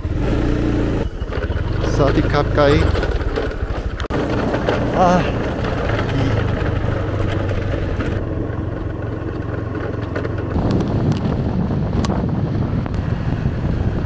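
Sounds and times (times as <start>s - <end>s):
motorcycle engine humming: 0.0s - 14.0s
wind buffeting microphone: 0.0s - 14.0s.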